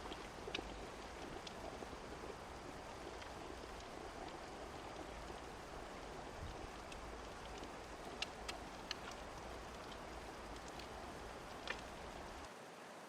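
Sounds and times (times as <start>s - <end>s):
raindrop ticks: 0.0s - 12.5s
rain rushing: 0.0s - 13.0s.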